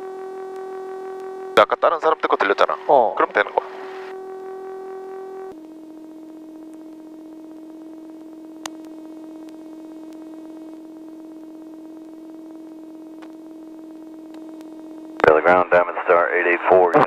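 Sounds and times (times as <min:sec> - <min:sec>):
steady cockpit hum: 0:00.0 - 0:17.0.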